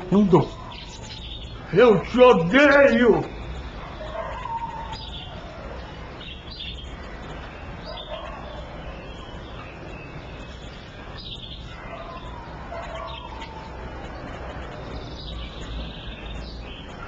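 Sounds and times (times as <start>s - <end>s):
pet birds chirping: 0.0s - 17.0s.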